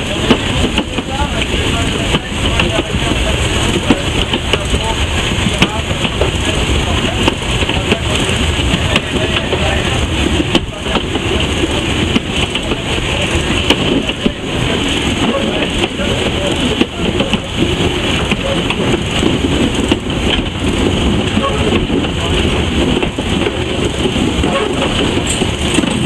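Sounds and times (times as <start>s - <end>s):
steam locomotive rumbling and rattling: 0.0s - 26.0s
sharp clicks and knocks: 3.7s - 14.4s, 15.1s - 26.0s.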